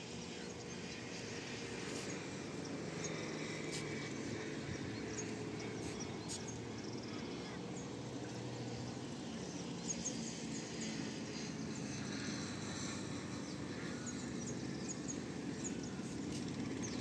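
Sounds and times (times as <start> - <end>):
outdoor background hum: 0.0 - 17.0.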